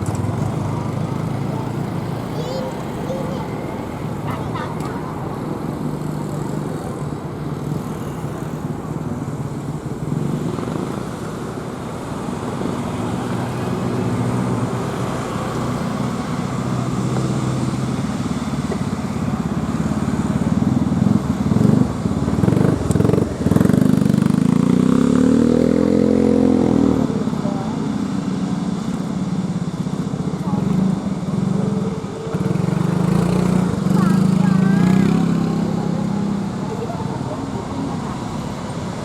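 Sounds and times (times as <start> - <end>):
engine humming: 0.0 - 39.0.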